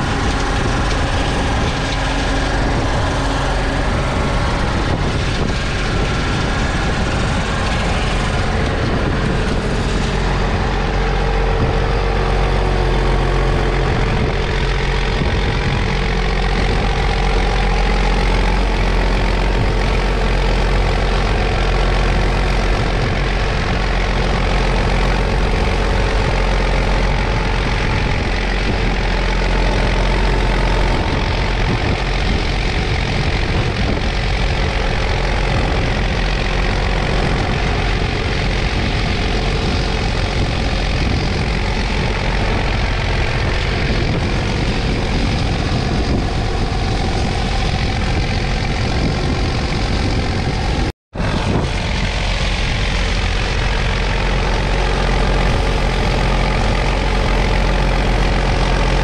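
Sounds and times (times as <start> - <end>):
hedge cutter working: 0.0 - 59.0
tractor diesel engine running: 0.0 - 59.0.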